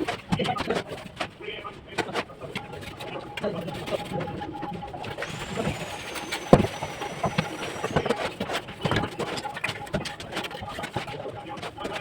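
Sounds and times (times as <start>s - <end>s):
faint high whine: 2.3s - 12.0s.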